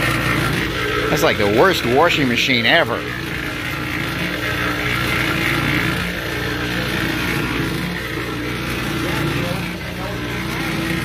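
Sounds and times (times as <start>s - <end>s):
cement mixer motor hum: 0.0s - 11.0s
concrete mix sloshing: 0.0s - 11.0s.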